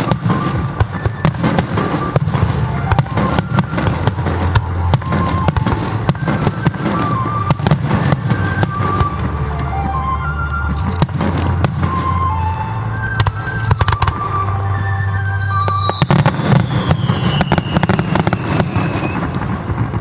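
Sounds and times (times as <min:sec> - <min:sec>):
deep rumble of booms: 0:00.0 - 0:20.0
firework shell bursts and crackles: 0:00.0 - 0:20.0.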